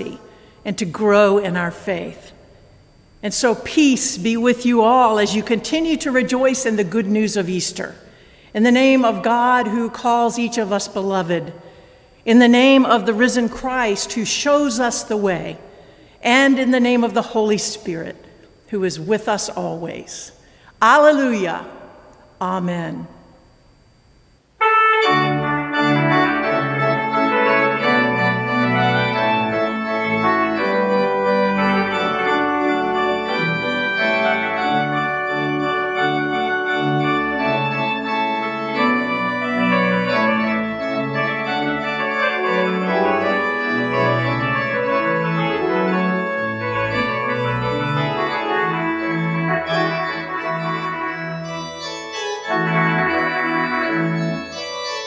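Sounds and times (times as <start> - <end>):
pipe organ playing chords: 0.0 - 16.0, 24.6 - 55.0.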